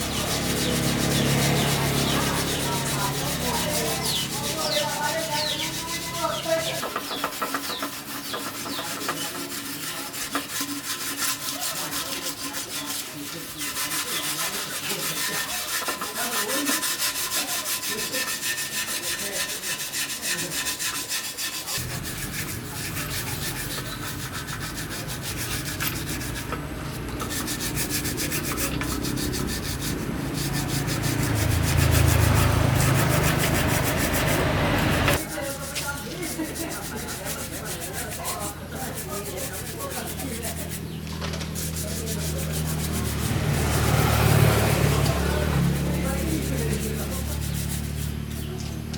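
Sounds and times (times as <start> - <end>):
abrasive rubbing and scraping: 0.0 - 48.9.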